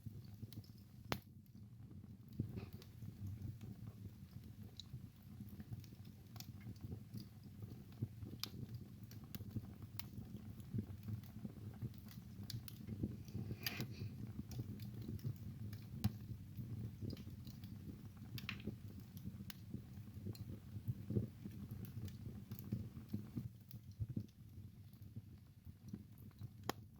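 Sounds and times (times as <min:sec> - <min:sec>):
fire crackling and popping: 0:00.0 - 0:26.9
wood fire rumbling: 0:00.0 - 0:26.9.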